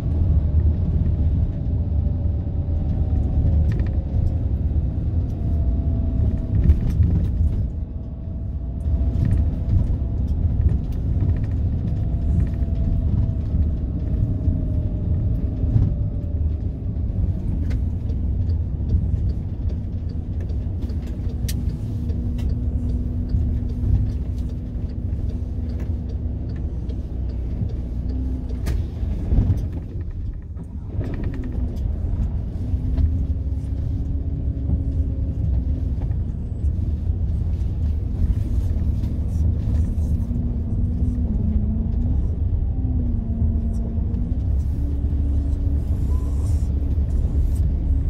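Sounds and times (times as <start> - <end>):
van engine and road rumble: 0.0 - 48.0.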